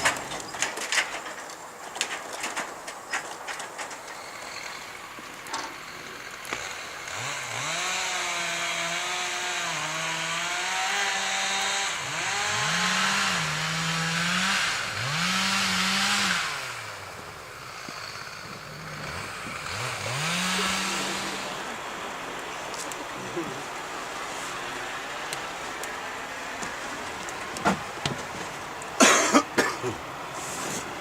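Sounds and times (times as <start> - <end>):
chainsaw revving: 4.1 - 31.0.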